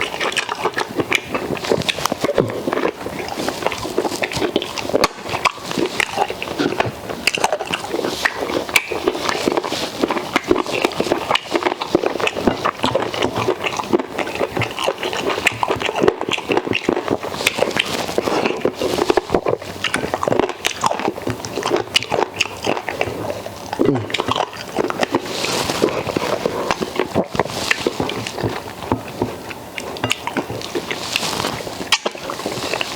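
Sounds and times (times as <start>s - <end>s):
person chewing and smacking food: 0.0s - 32.9s.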